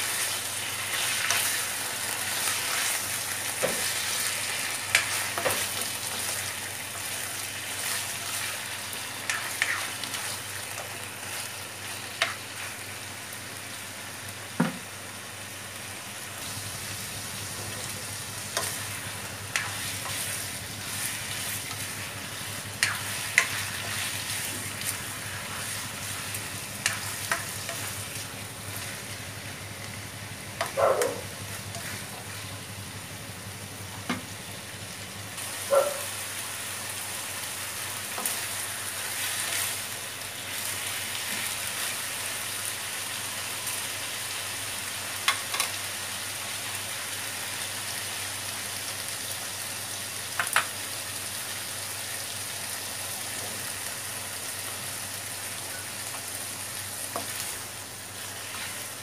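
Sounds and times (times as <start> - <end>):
meat sizzling in a wok: 0.0 - 59.0.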